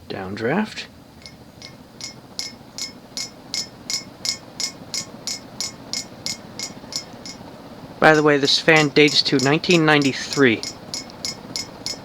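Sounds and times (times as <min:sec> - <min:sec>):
fan low hum: 0:00.0 - 0:12.0
ceiling fan clinking: 0:00.1 - 0:12.0.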